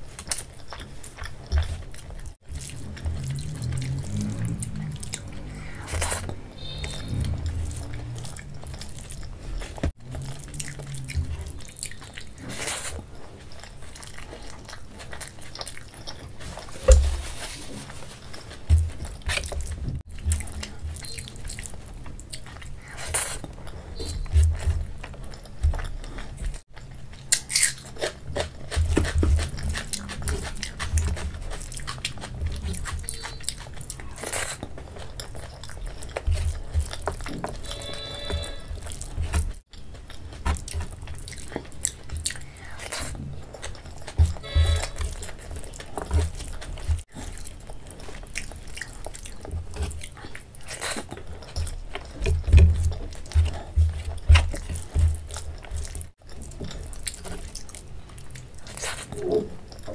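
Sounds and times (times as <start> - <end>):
wet chewing and lip smacks: 0.0 - 16.7, 18.3 - 59.9.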